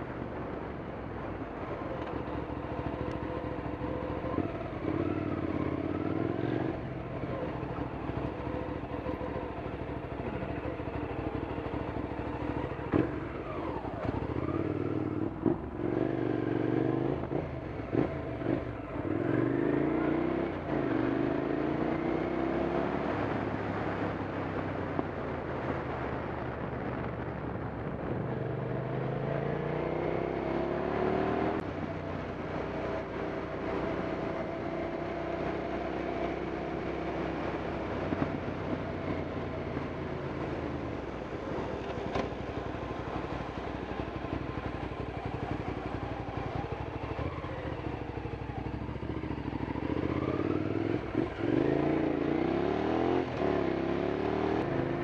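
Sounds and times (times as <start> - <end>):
wind and road noise: 0.0 - 55.0
motorcycle engine revving: 1.6 - 24.8, 28.1 - 55.0.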